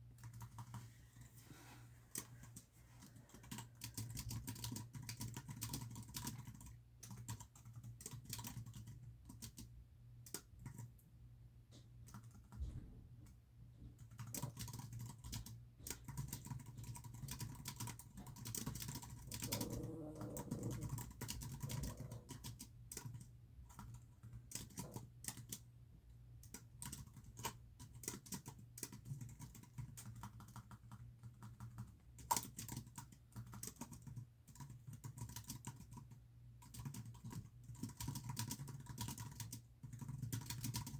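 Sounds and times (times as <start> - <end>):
keyboard typing clicks: 2.1 - 11.0, 14.0 - 25.6, 26.4 - 40.9.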